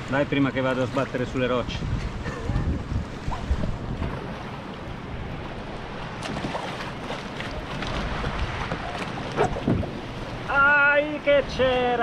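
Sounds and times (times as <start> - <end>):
wind buffeting microphone: 0.0 - 10.6
water lapping and splashing: 0.0 - 12.0.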